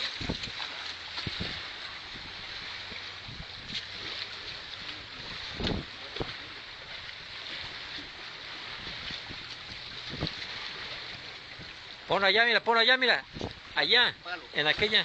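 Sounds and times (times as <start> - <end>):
sea surf against breakwater: 0.0 - 15.0.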